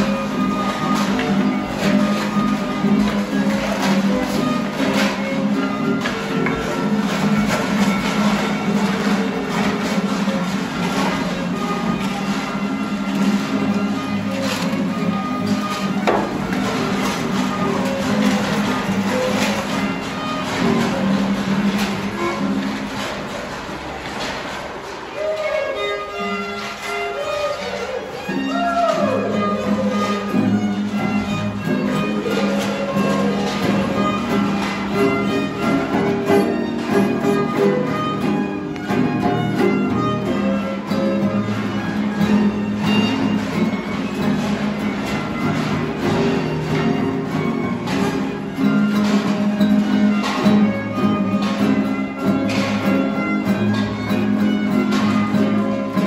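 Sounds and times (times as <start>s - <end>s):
guitar accompaniment: 0.0s - 56.0s
violin folk melody: 0.0s - 56.0s.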